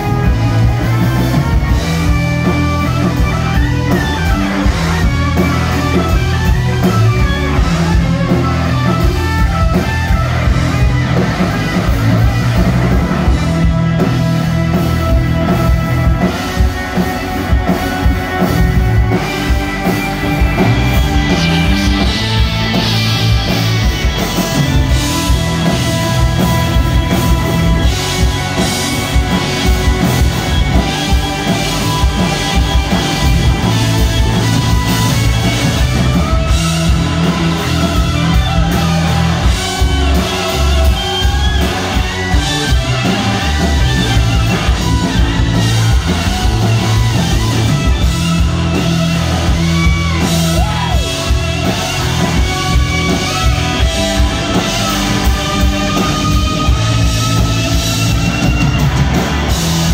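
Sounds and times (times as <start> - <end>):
bass: 0.0 - 59.9
drum kit: 0.0 - 59.9
electric guitar lead: 0.0 - 59.9.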